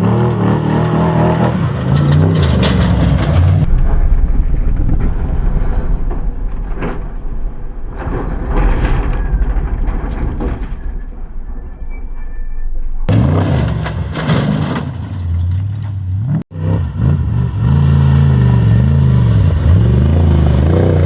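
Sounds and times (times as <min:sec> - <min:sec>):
off-road vehicles rumbling: 0:00.0 - 0:21.0.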